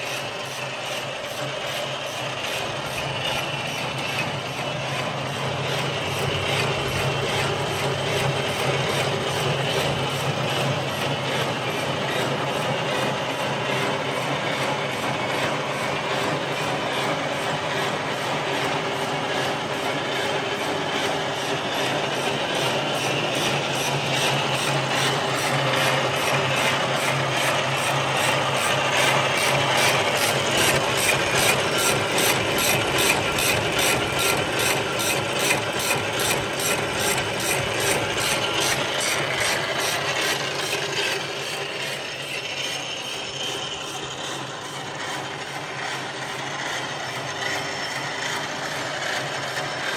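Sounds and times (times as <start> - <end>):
machine mechanical clatter: 0.0 - 49.9.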